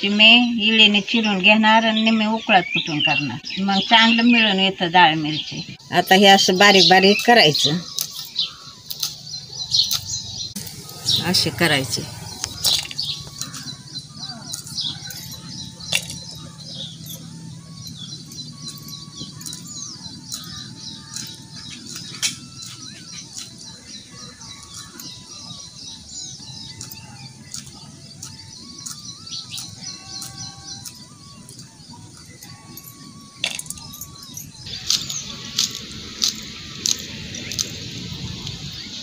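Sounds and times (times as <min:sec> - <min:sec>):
birds chirping and twittering: 0:00.0 - 0:39.0.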